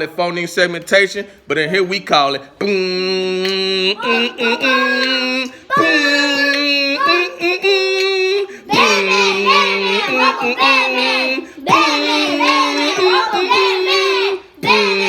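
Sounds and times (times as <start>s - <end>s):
children singing together: 2.7s - 15.0s.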